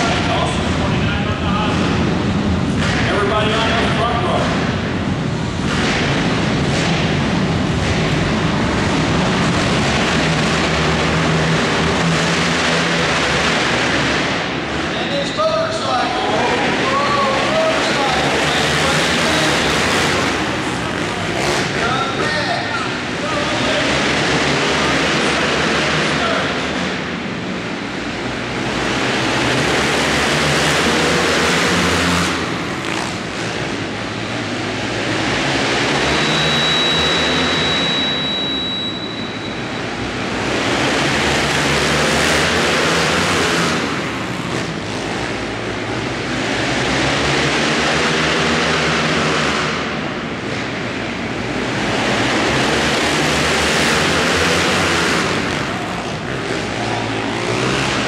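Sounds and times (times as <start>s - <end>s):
racing quad engines revving: 0.0s - 58.0s.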